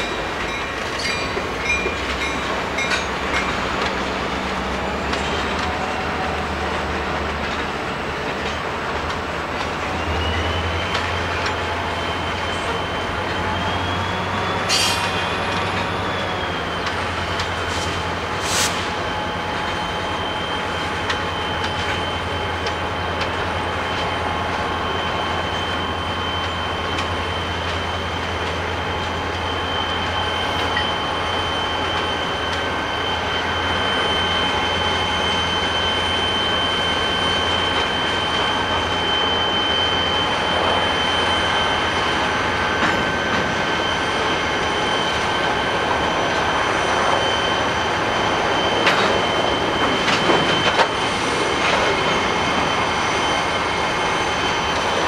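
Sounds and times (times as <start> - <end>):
train wheels squealing: 0.0 - 55.0.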